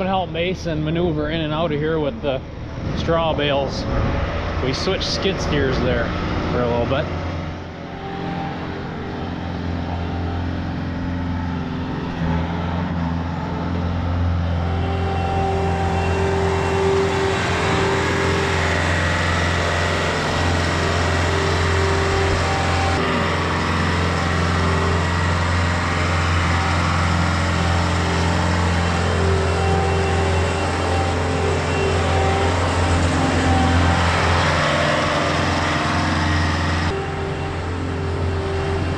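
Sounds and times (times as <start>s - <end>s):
diesel engine running: 0.0s - 38.9s
high whine: 0.0s - 38.9s.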